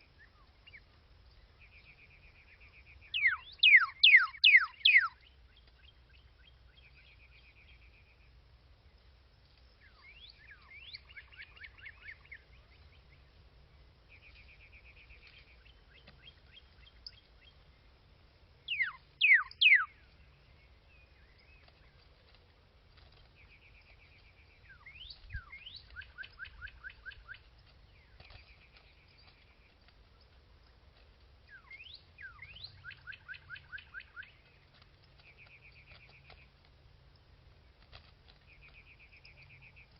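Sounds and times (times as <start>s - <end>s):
songbirds calling: 0.0s - 39.9s.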